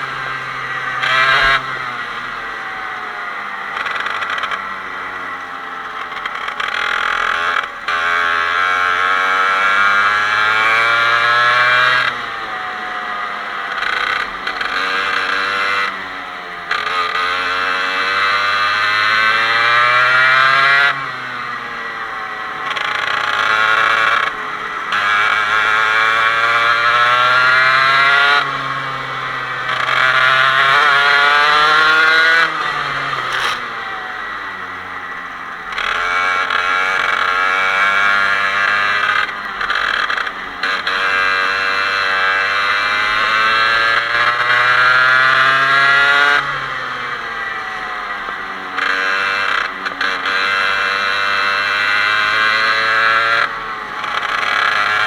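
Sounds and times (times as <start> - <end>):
kart engine accelerating: 0.0 - 55.0.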